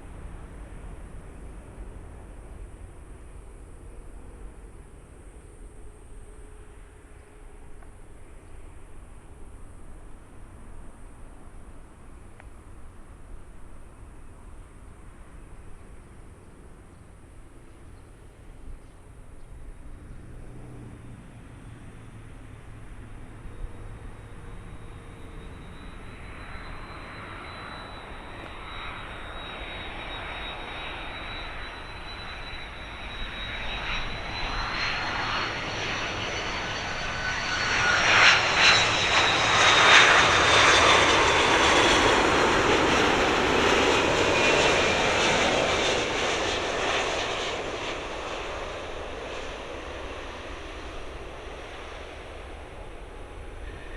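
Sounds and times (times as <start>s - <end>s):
jet airliner engine whine: 0.0s - 53.9s.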